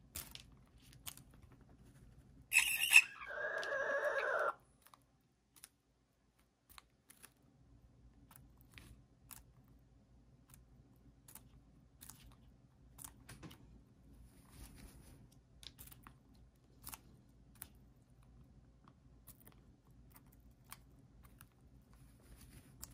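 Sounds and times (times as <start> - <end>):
roosters pecking cabbage leaves: 0.0 - 22.9.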